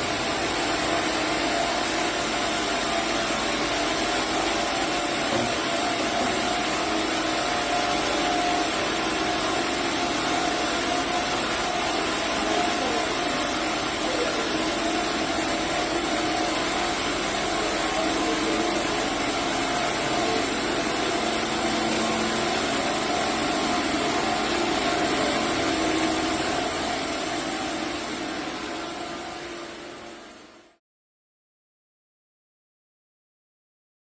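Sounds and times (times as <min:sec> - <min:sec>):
sawmill saw running: 0:00.1 - 0:30.2.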